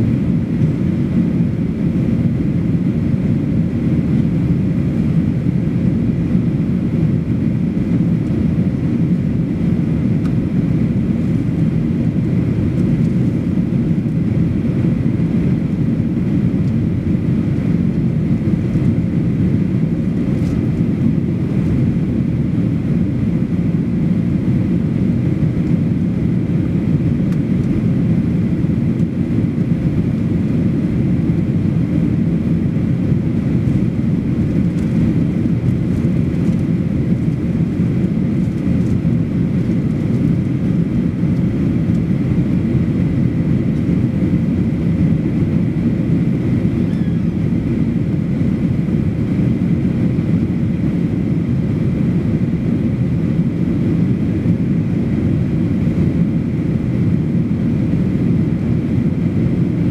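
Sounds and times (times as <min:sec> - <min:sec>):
airliner cabin drone: 0:00.0 - 0:59.9
faint steady whine: 0:00.0 - 0:59.9.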